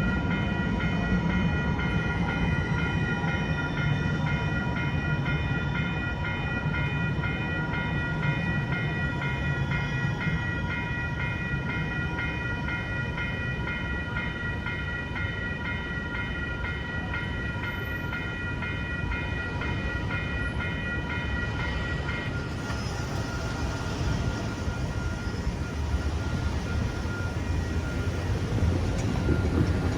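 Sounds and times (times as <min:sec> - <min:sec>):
railroad crossing bells ringing: 0:00.0 - 0:29.9
tram rumbling: 0:00.0 - 0:29.9.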